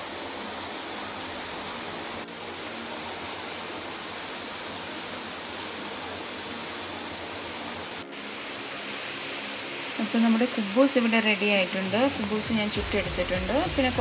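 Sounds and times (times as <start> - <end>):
gas burner hissing: 0.0 - 14.0.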